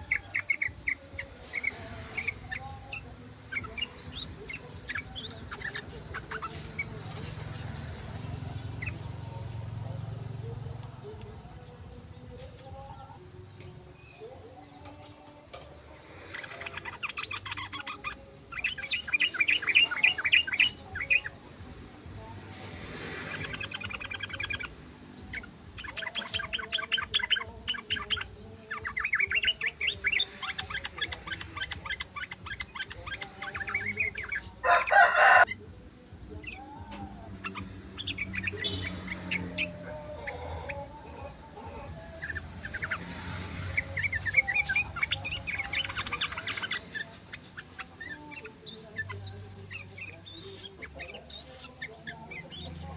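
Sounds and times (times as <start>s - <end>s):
birds chattering in trills: 0.0s - 11.2s, 11.9s - 52.9s.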